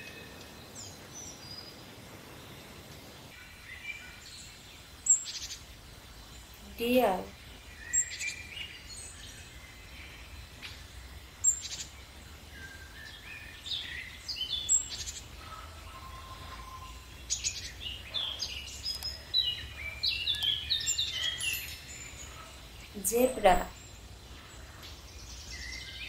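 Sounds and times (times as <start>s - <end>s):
birds chirping and calling: 3.2s - 26.0s.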